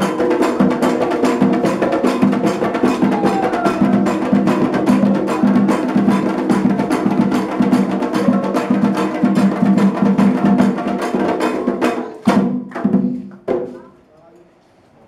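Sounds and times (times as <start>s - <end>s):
hand drums fast rhythm: 0.0s - 13.8s
struck percussion: 0.0s - 13.8s.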